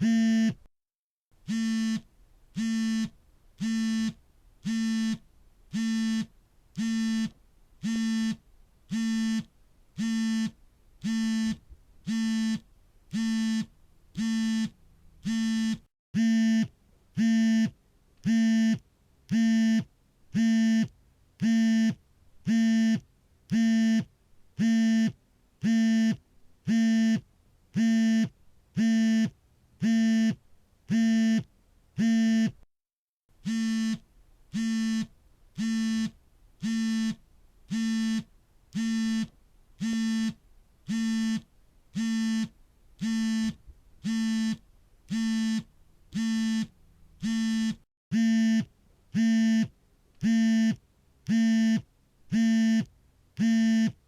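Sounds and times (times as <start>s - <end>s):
mobile phone vibrating: 0.0s - 0.7s, 1.4s - 32.6s, 33.4s - 54.0s.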